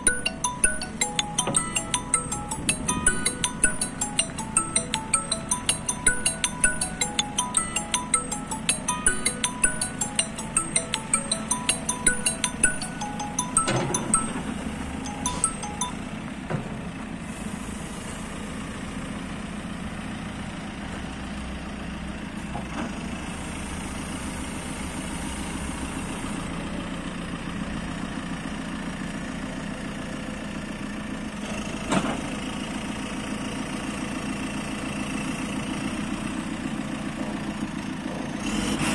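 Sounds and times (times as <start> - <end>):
diesel engine idling: 0.0 - 38.6.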